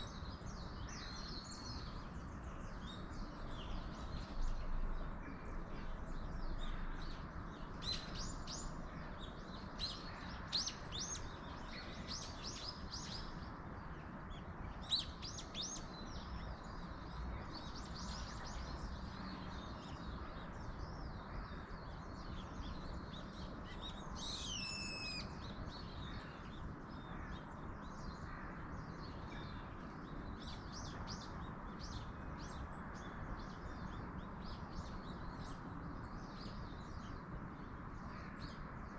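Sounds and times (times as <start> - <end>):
birds chirping and trilling: 0.0 - 38.9
wind in trees: 0.0 - 38.9.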